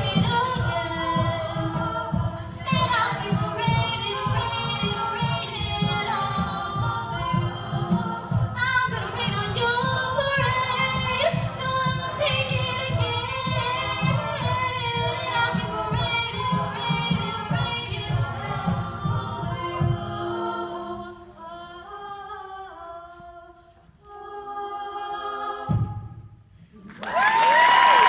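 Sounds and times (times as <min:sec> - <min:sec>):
a cappella group singing in harmony: 0:00.0 - 0:26.8.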